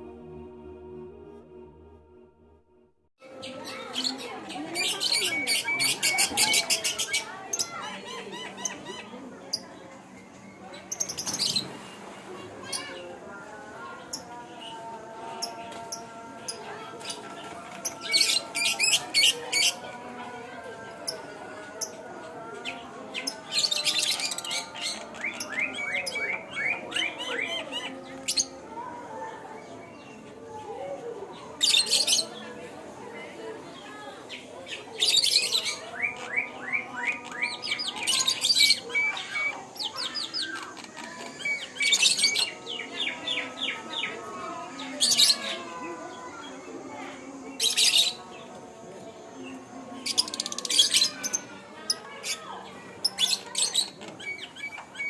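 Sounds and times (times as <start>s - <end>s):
birds chirping: 3.3s - 28.6s, 33.7s - 55.0s.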